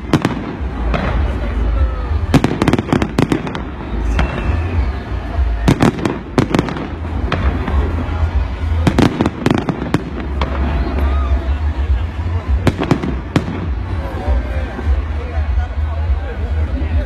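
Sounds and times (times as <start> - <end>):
fireworks bangs: 0.0 - 15.6.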